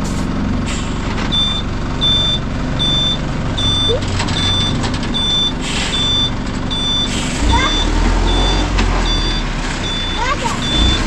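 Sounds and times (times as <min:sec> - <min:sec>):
engine running: 0:00.0 - 0:11.0
reversing alarm beeping: 0:01.3 - 0:11.0.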